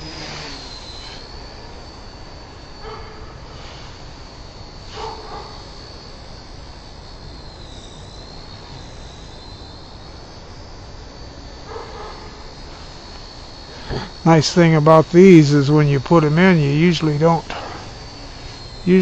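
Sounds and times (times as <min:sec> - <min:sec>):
toy helicopter rotor whining: 0:00.0 - 0:19.0.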